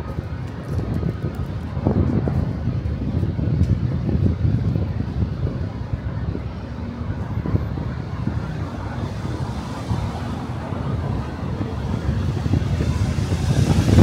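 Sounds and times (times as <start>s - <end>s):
city street traffic rumble: 0.0s - 14.0s
wind buffeting microphone: 0.0s - 14.0s.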